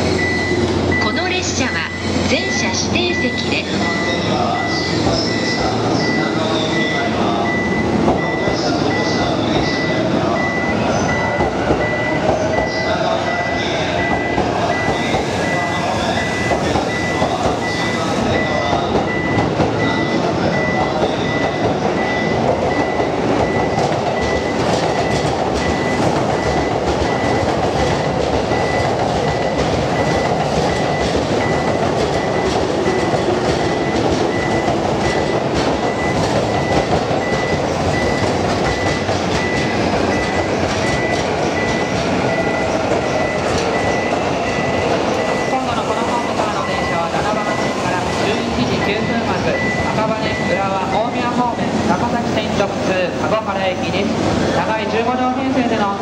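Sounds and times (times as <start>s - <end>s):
high beeping: 0.0s - 53.5s
train wheels rumbling on rail: 0.0s - 56.0s.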